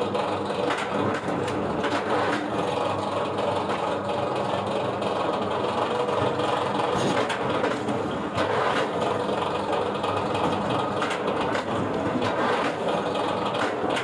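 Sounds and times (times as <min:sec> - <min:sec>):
wood-processing machinery running: 0:00.0 - 0:14.0.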